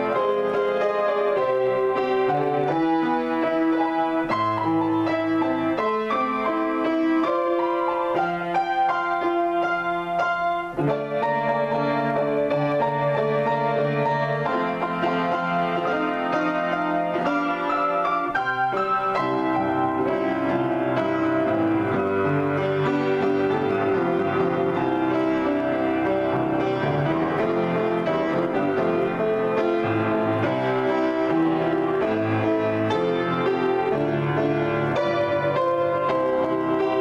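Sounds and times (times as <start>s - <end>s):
solo piano improvisation: 0.0s - 37.0s.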